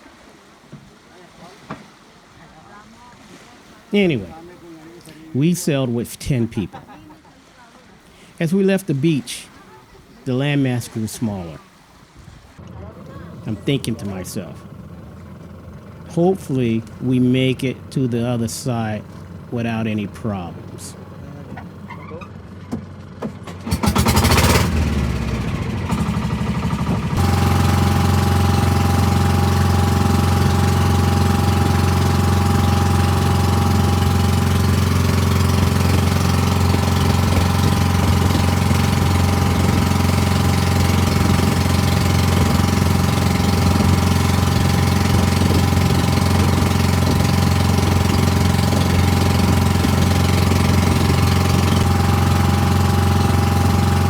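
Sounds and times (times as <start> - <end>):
water noise: 0.0 - 22.0, 23.8 - 54.0
boat engine droning: 0.0 - 23.0, 23.6 - 54.0.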